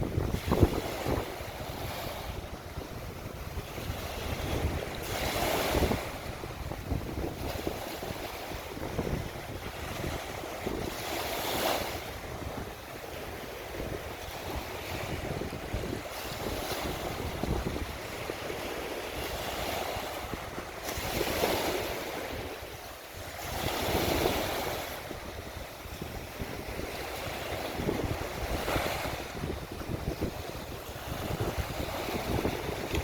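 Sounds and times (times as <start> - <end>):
sea waves breaking on beach: 0.0 - 33.0
wind buffeting microphone: 0.0 - 33.0.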